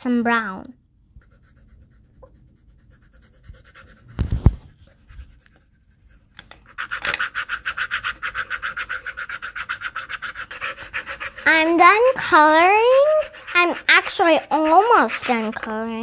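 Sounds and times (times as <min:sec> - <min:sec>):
coloring tool scribbling on paper: 0:01.2 - 0:16.0.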